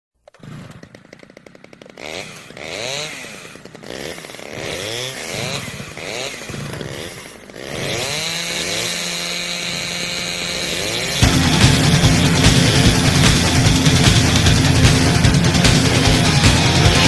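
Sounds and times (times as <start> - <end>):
chainsaw engine revving: 0.2 - 17.0.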